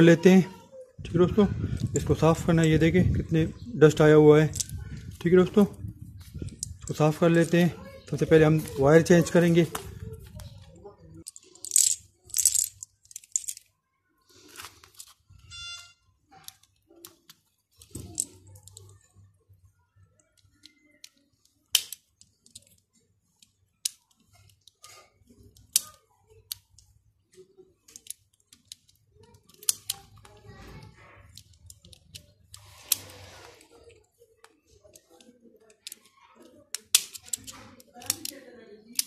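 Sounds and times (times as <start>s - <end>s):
soft handling noise: 1.0s - 39.0s.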